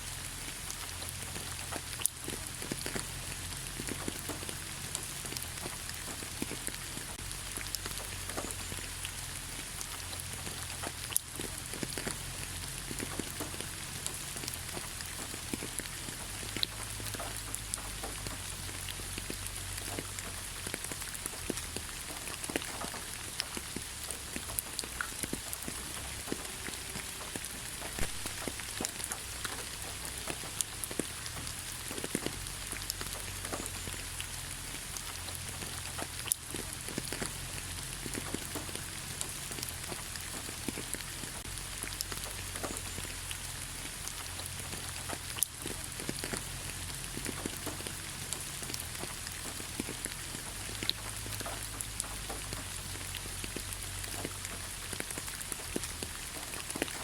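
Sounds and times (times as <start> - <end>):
light rain falling on leaves: 0.0 - 57.0.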